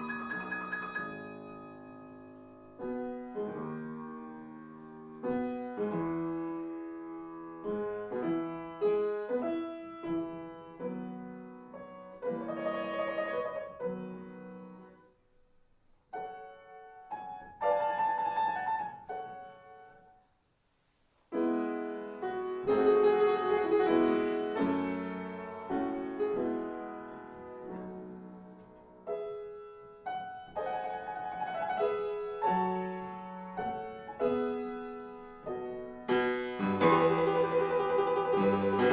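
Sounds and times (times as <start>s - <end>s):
slow solo piano music: 0.0s - 15.2s, 16.0s - 20.2s, 21.3s - 38.9s.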